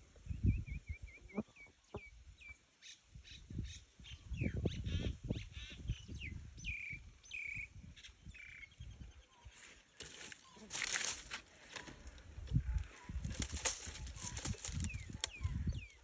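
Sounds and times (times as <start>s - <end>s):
bird chirping: 0.4s - 16.0s.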